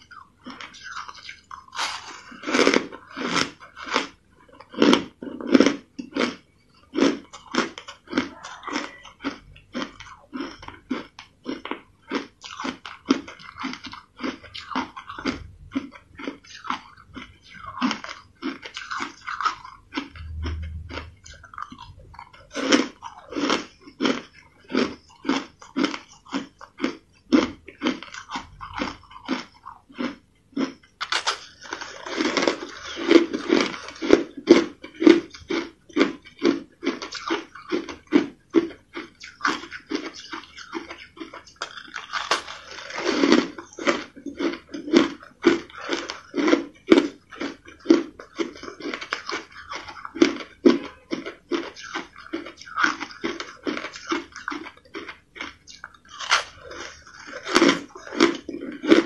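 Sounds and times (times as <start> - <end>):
chewing crushed ice: 0.0 - 59.0.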